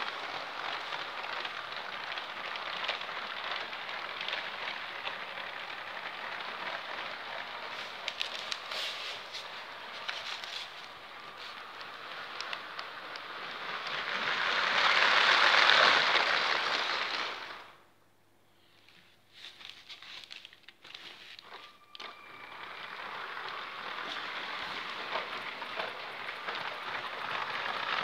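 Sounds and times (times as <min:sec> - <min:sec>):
toy train rattling on plastic track: 0:00.0 - 0:17.8, 0:19.4 - 0:28.0.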